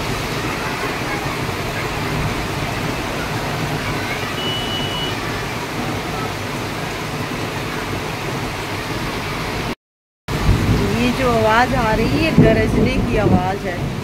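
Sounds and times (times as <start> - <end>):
heavy rain on flooded street: 0.0 - 14.0.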